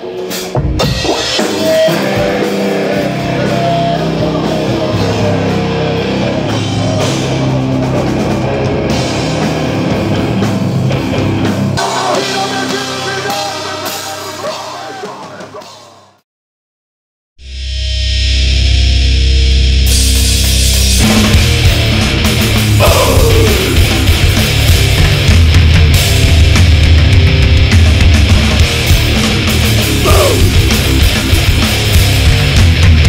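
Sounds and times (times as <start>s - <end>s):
punk band playing: 0.0s - 16.2s, 19.7s - 33.0s.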